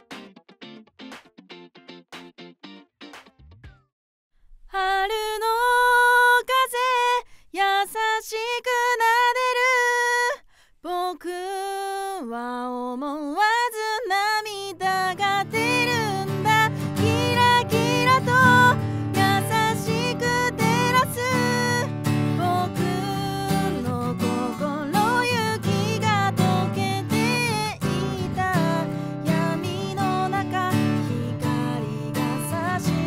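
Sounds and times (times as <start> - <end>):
woman singing long held notes: 4.7 - 33.0.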